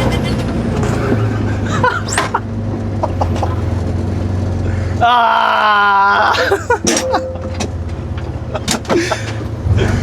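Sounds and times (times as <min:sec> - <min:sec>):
combine harvester engine droning: 0:00.0 - 0:10.0.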